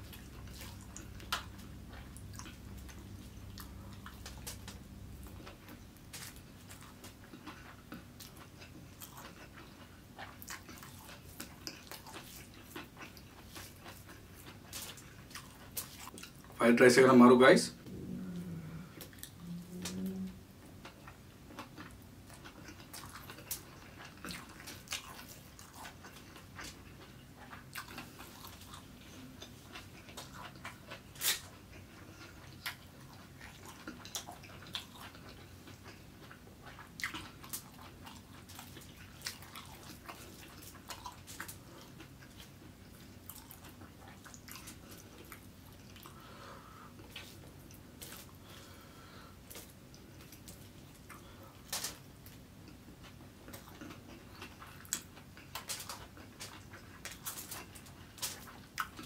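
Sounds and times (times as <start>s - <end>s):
chewing and mouth sounds: 0.0s - 16.6s, 17.8s - 59.0s.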